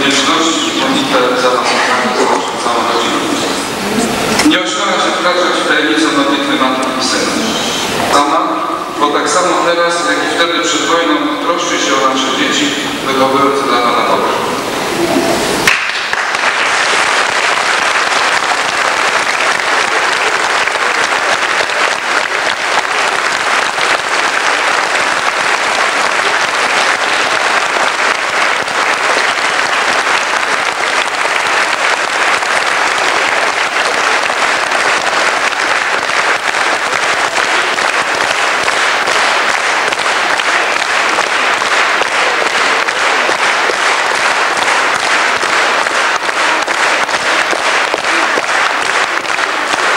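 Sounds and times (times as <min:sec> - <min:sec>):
congregation applauding: 0:00.0 - 0:49.9.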